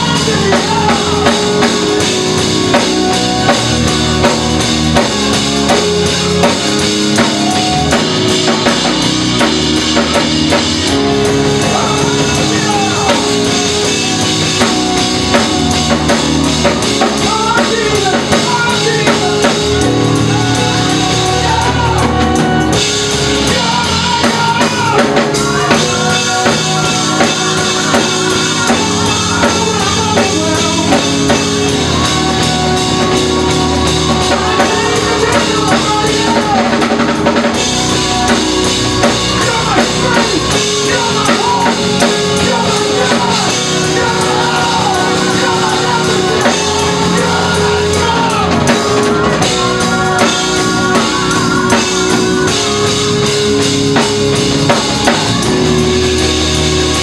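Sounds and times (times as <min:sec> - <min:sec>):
group of singers: 0:00.0 - 0:57.0
keyboard chords: 0:00.0 - 0:57.0
steady drum beat: 0:00.0 - 0:57.0.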